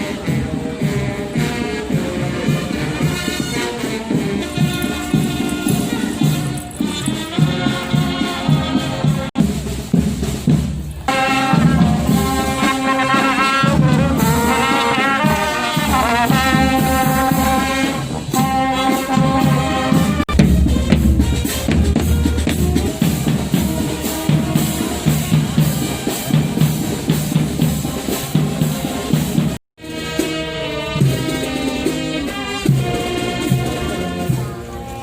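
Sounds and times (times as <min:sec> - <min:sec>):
brass band playing: 0:00.0 - 0:35.0
steady drum beat: 0:00.0 - 0:35.0.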